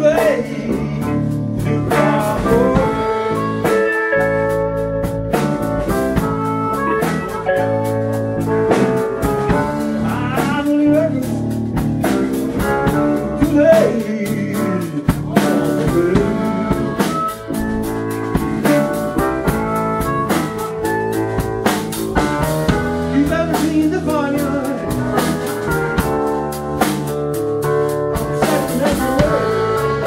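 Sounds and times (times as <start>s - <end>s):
blues band playing: 0.0s - 30.0s
harmonica bending notes: 0.1s - 11.1s, 12.0s - 30.0s.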